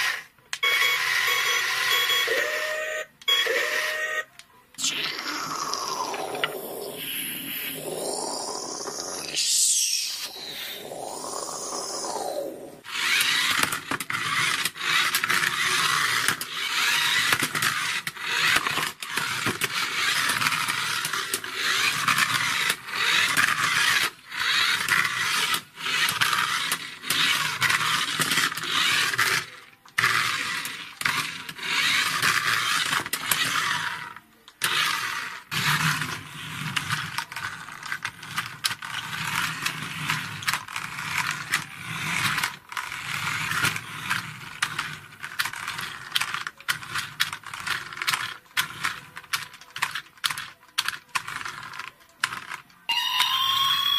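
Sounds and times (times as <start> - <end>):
toy cars rolling on tabletop: 0.0 - 2.2, 5.5 - 53.9.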